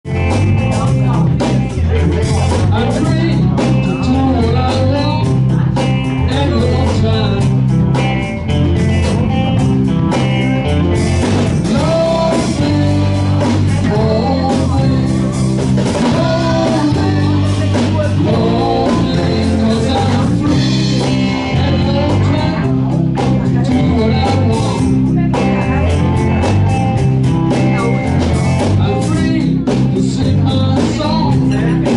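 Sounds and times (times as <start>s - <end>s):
bass: 0.0s - 31.9s
drums steady beat: 0.0s - 31.9s
guitar: 0.0s - 31.9s
person singing: 0.1s - 9.4s, 10.6s - 31.9s.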